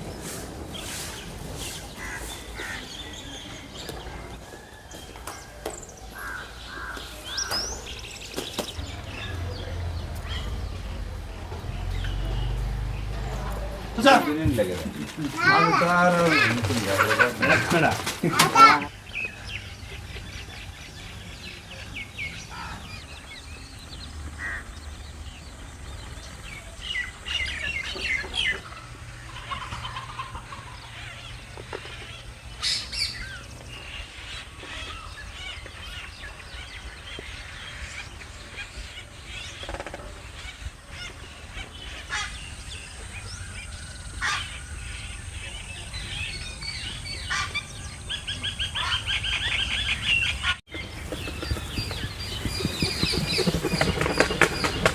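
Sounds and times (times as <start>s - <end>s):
birds chirping and clucking: 0.0s - 54.9s.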